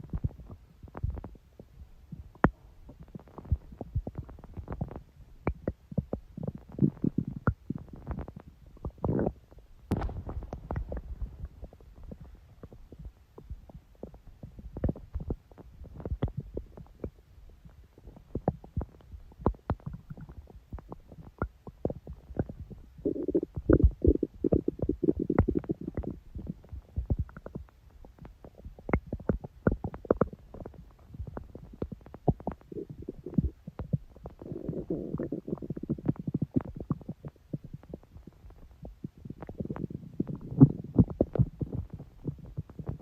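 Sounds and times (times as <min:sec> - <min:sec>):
stomach growling and gurgling: 0:00.0 - 0:43.0.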